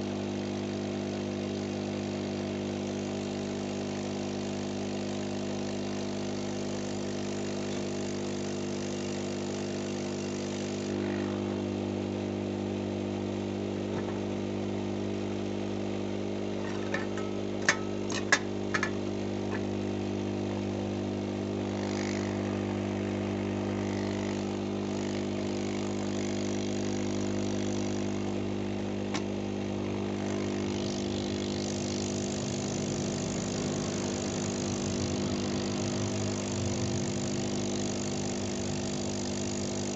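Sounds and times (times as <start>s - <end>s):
hot-air gun blower hum and hiss: 0.0s - 39.9s.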